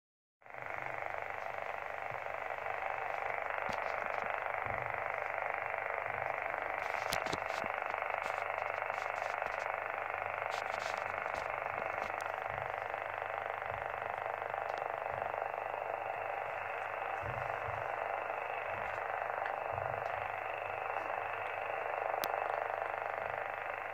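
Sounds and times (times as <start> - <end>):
radio static rushing: 0.5 - 23.9
faint clicks: 0.7 - 23.9.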